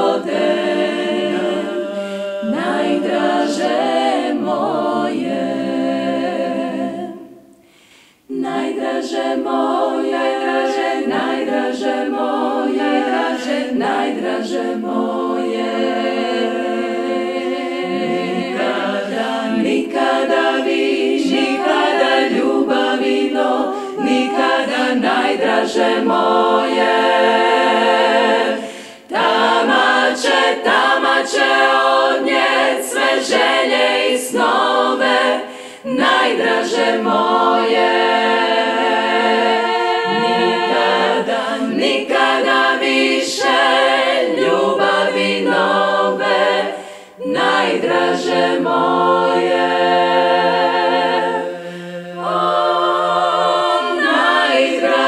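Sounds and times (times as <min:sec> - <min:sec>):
women's choir singing a cappella: 0:00.0 - 0:55.0.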